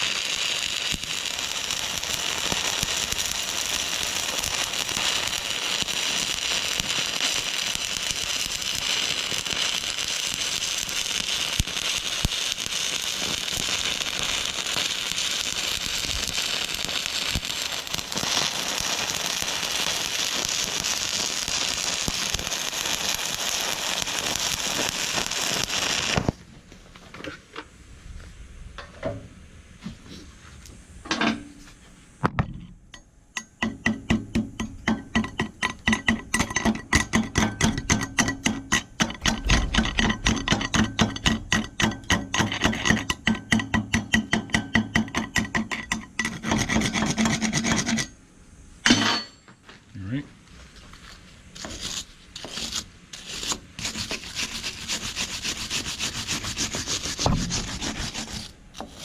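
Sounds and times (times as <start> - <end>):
welding arc crackling hiss: 0.0 - 26.5, 33.4 - 49.2, 49.9 - 59.0.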